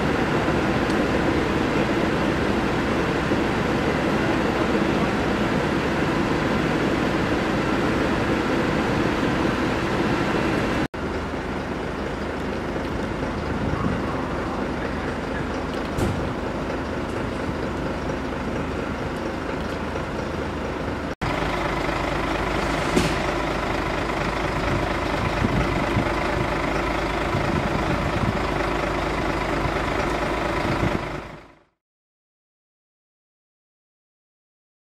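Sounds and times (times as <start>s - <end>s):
diesel engines idling: 0.0s - 31.8s.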